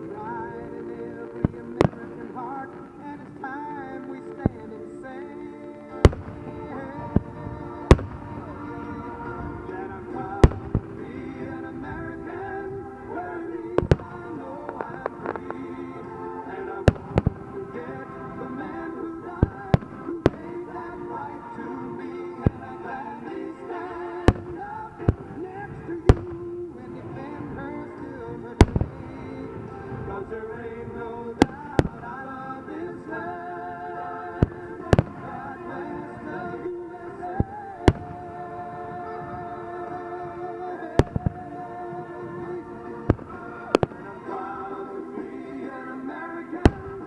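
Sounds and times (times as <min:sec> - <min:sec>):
fireworks bursting: 0:00.0 - 0:47.0
music with singing: 0:00.0 - 0:47.0.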